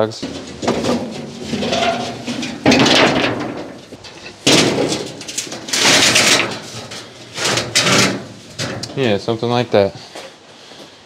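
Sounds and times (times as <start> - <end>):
objects knocking and scraping: 0.0 - 9.2.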